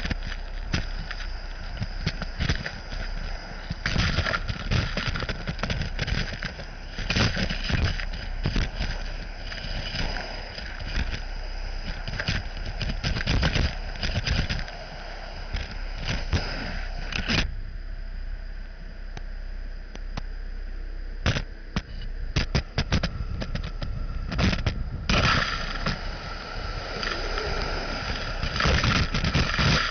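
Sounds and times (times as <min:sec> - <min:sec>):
vacuum air rush with whine: 0:00.0 - 0:29.9.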